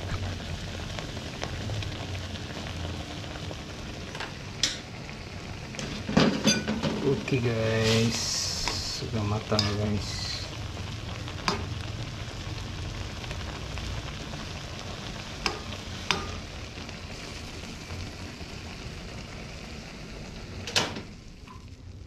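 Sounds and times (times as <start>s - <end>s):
noodles sizzling in a pan: 0.0s - 22.0s.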